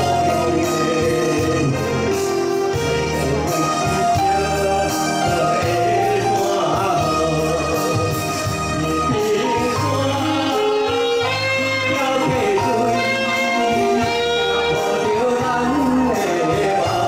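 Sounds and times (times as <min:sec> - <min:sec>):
amplified instrumental accompaniment: 0:00.0 - 0:17.0
man singing through microphone: 0:00.0 - 0:17.0.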